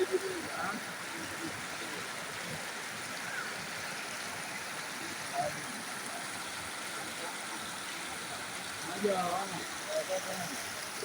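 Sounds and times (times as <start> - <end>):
faint voices: 0.0 - 11.0
floodwater rushing: 0.0 - 11.0.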